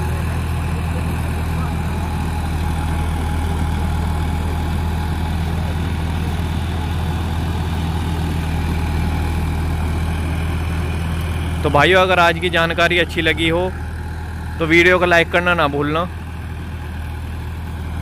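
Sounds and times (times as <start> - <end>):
rotavator tilling hard ground: 0.0 - 18.0
tractor diesel engine running: 0.0 - 18.0.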